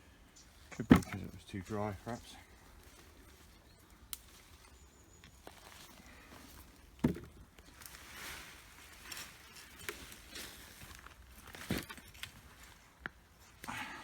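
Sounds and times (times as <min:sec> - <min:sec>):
soil and vines rustling: 0:00.4 - 0:14.0.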